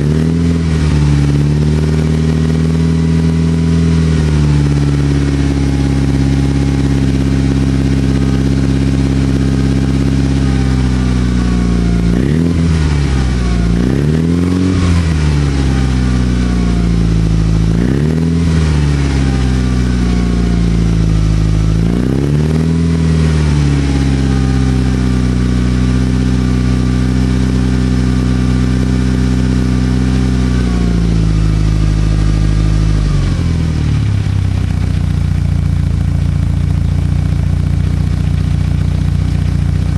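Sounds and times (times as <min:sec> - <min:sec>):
car engine at steady revs: 0:00.0 - 0:39.9.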